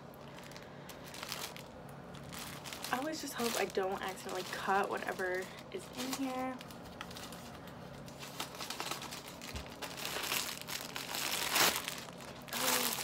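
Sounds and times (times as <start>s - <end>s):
plastic package crinkling: 0.0s - 13.0s.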